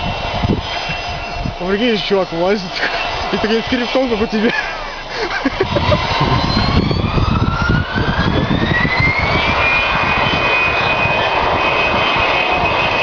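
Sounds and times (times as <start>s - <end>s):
jet engine whine: 0.0s - 13.0s
loud low rumble: 0.0s - 13.0s.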